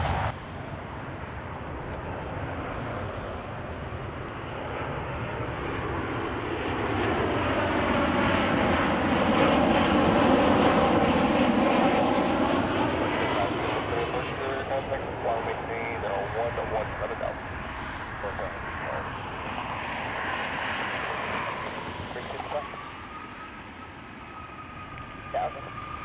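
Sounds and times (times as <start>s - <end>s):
jet airliner engine noise: 0.0s - 26.0s.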